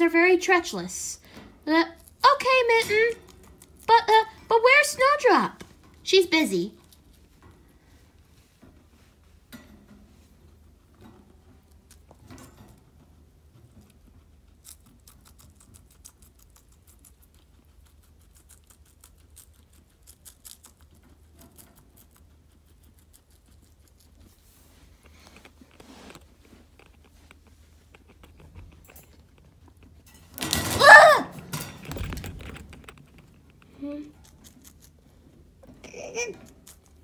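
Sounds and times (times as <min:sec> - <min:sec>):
guinea pig ticking and rustling: 0:00.0 - 0:30.5, 0:31.6 - 0:37.0.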